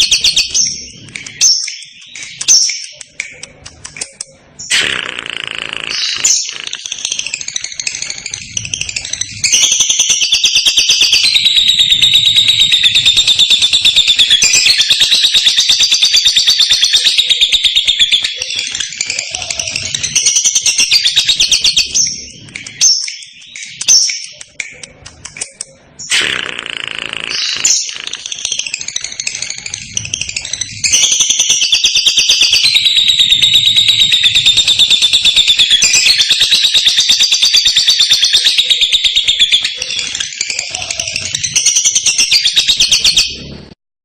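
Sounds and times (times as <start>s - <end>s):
lovebird chirping and trilling: 0.0s - 43.6s.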